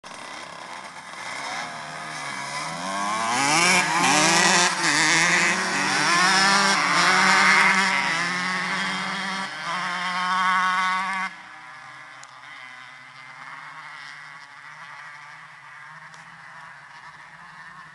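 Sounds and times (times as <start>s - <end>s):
motocross bike engines revving: 0.1s - 17.9s.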